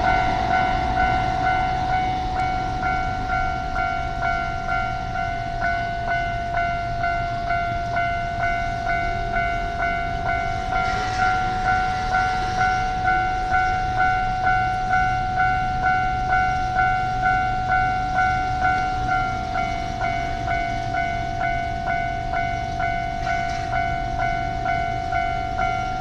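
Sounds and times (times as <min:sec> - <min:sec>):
level-crossing electronic bell: 0:00.0 - 0:26.0
steady ringing tone: 0:00.0 - 0:26.0.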